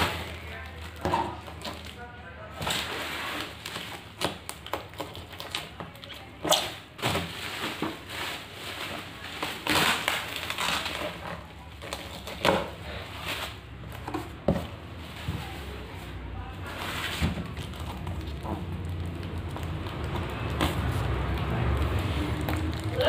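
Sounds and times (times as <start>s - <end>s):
bubble wrap and plastic crinkling: 0.0s - 23.0s
cardboard scraping: 2.5s - 22.8s.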